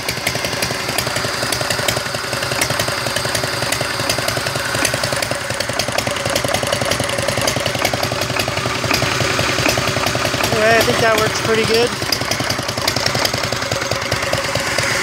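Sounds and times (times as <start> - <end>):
diesel engine running steadily: 0.0 - 15.0
shop vac running: 0.0 - 15.0.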